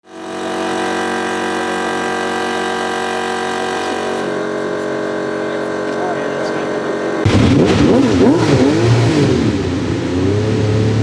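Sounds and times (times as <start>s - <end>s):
race car engine idling: 0.0s - 10.2s.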